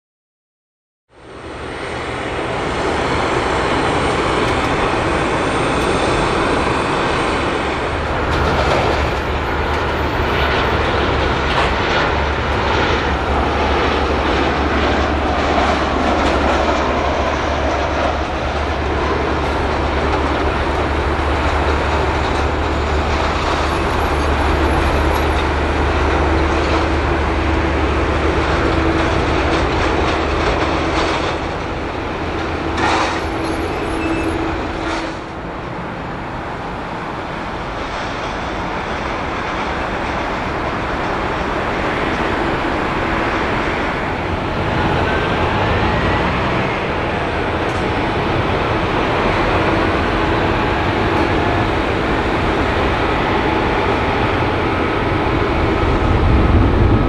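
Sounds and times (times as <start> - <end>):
jet engine rushing and rumbling: 1.1 - 57.0.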